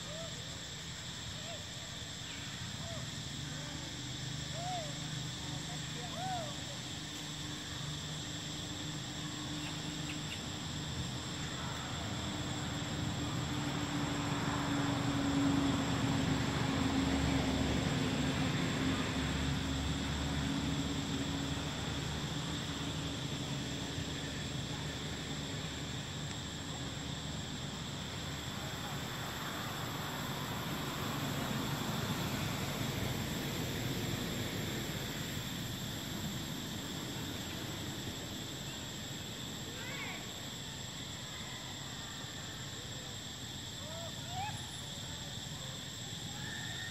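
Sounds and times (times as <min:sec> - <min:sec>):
even hiss: 0:00.0 - 0:46.9
high-pitched insect drone: 0:00.0 - 0:46.9.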